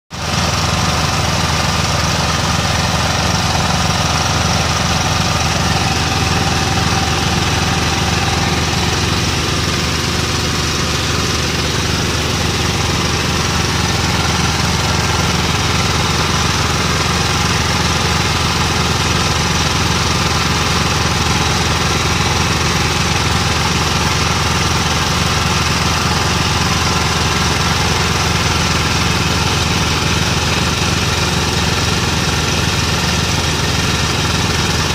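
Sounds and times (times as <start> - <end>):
drilling rig engine pulsing: 0.2 - 33.2.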